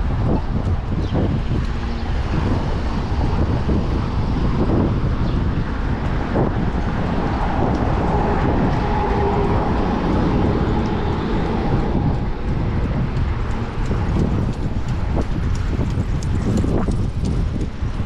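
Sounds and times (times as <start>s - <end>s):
street traffic: 0.0s - 18.0s
wind buffeting microphone: 0.0s - 18.0s.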